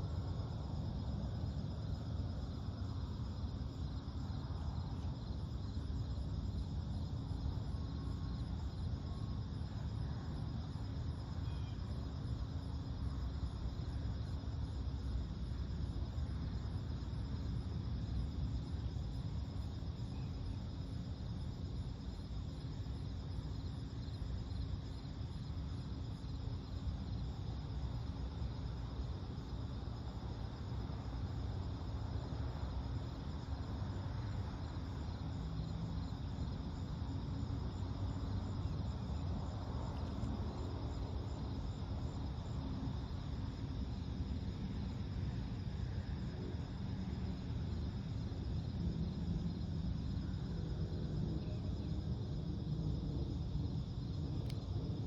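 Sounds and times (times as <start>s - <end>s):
fast pulsing insect trill: 0.0s - 55.0s
night insects calling: 0.0s - 55.0s.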